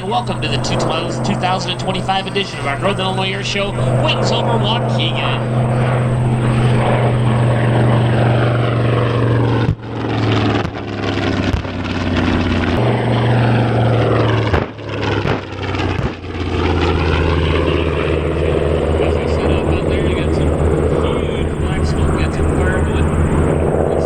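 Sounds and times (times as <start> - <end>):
propeller warplanes droning past: 0.0 - 24.0.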